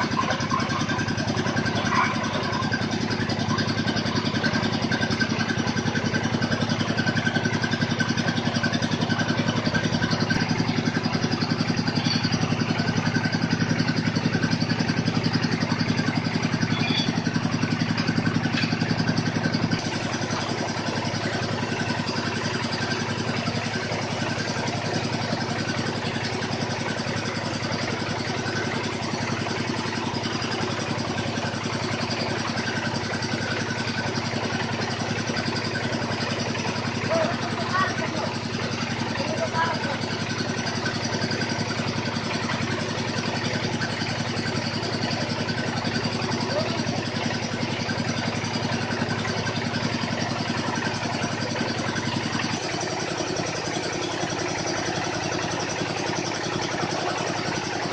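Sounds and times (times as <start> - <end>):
drilling machine engine running: 0.0 - 57.9.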